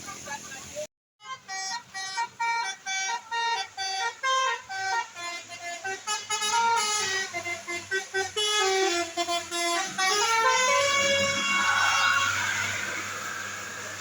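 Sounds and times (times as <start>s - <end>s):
bus melody horn playing a tune: 1.2s - 14.0s.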